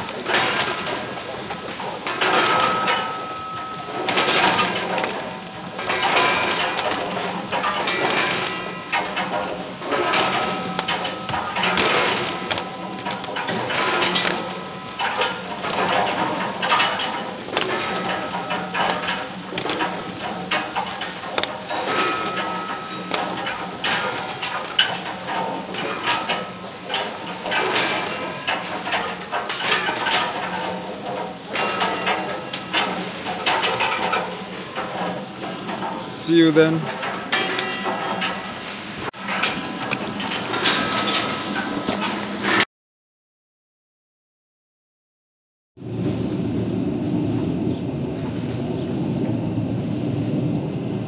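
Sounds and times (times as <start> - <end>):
conveyor clattering and knocking: 0.0 - 42.6
machine hum: 0.0 - 42.6.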